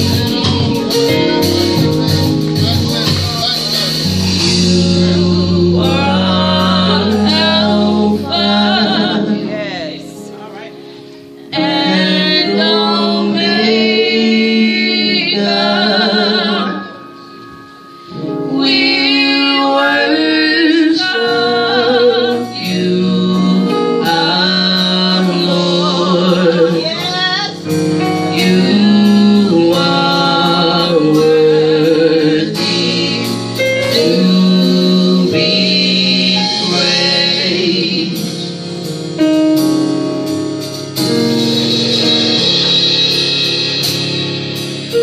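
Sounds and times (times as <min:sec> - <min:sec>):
gospel group singing: 0:00.0 - 0:45.0
guitar: 0:00.0 - 0:45.0.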